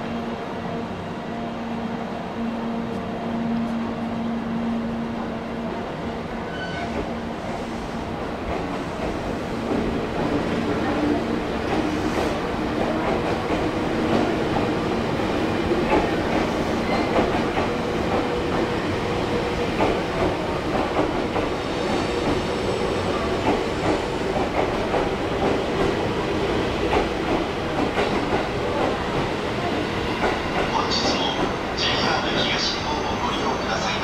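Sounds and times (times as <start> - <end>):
train humming: 0.0 - 34.0.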